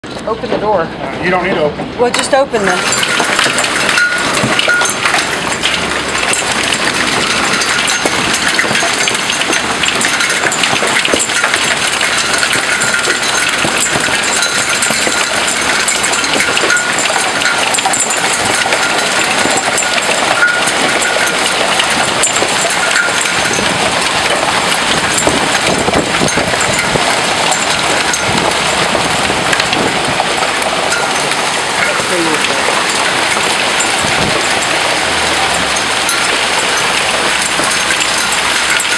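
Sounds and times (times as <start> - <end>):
hailstones striking surfaces: 1.3 - 38.9
heavy rain hissing: 2.7 - 38.9.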